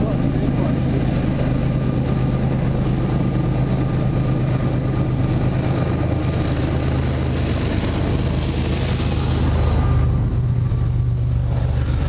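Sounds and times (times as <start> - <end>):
locomotive diesel engine drone: 0.0 - 12.0
train rolling on rails: 0.0 - 12.0.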